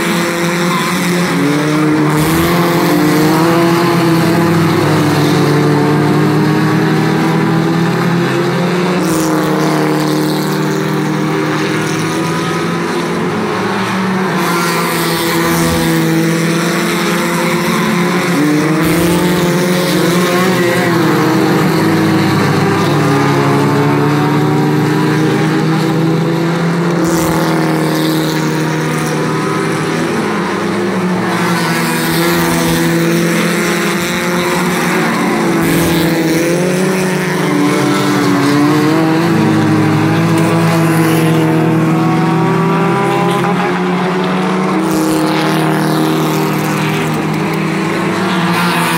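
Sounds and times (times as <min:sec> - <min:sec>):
racing car engines droning: 0:00.0 - 0:48.9.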